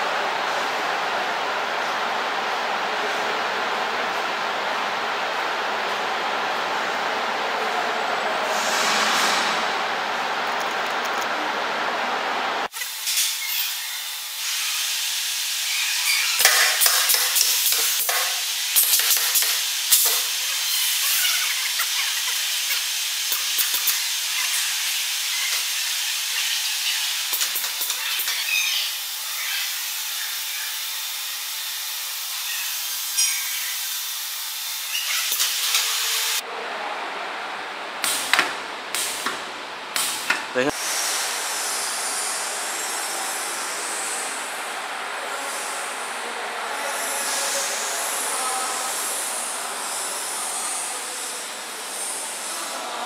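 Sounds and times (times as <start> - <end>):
hissing workshop noise: 0.0 - 36.6, 37.4 - 53.0.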